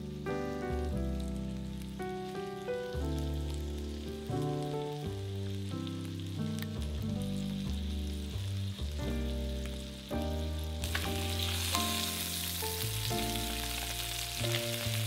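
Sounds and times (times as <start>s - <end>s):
background music with bass line: 0.0s - 15.0s
chicken sizzling in oil: 0.0s - 15.0s.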